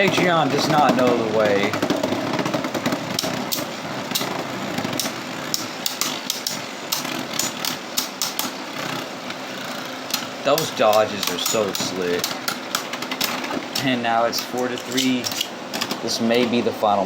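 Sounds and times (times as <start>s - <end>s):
spinning tops clacking: 0.0s - 16.7s
spinning tops whirring: 0.0s - 17.0s.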